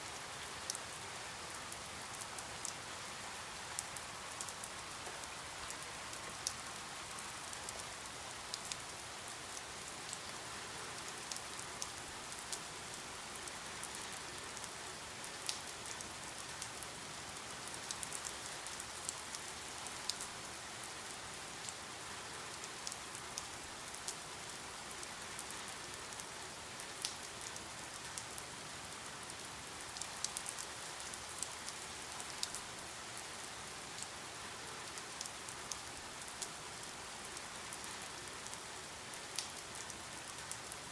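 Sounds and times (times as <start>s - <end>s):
steady rain hiss: 0.0s - 40.9s
raindrops ticking on a surface: 3.7s - 40.9s.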